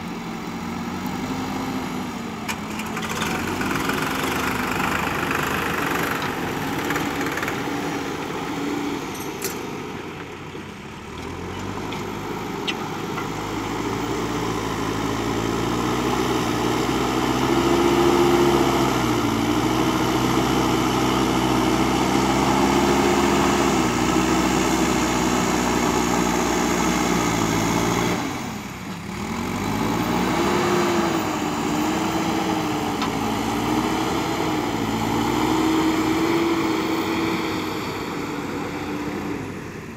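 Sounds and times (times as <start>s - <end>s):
diesel engine revving under load: 0.5s - 10.2s, 10.8s - 39.9s.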